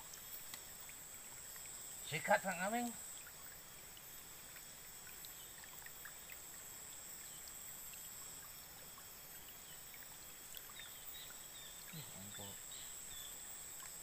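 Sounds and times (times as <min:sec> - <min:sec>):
water drips and trickles: 0:00.0 - 0:14.0.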